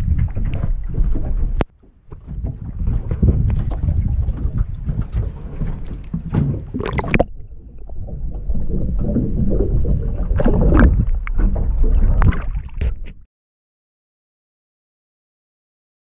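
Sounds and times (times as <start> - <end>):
muffled underwater rushing: 0.0 - 13.2
water splashing: 0.0 - 13.2.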